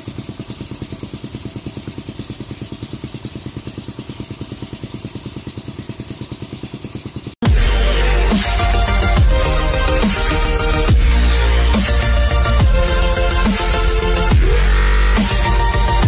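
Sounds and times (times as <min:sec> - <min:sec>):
engine running with rapid thudding: 0:00.0 - 0:16.0.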